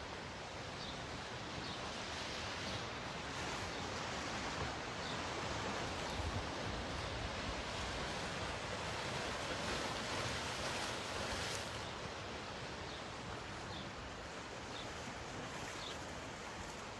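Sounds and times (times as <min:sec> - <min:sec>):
sea surf rushing: 0:00.0 - 0:16.9.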